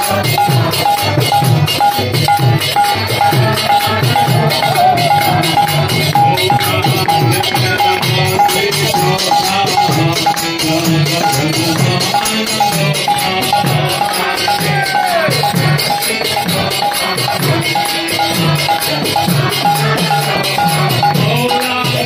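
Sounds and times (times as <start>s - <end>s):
drum beats: 0.0s - 22.0s
hand cymbals clashing: 0.0s - 22.0s.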